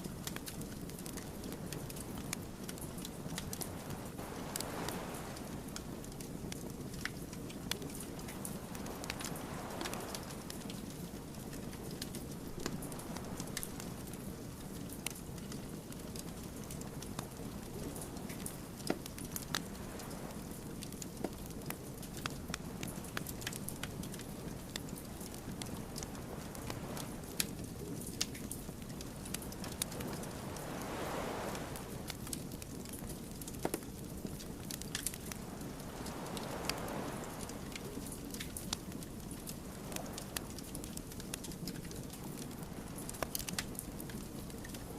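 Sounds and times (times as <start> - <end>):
low rush of flames: 0.0 - 44.9
wood fire pops and snaps: 0.1 - 44.9.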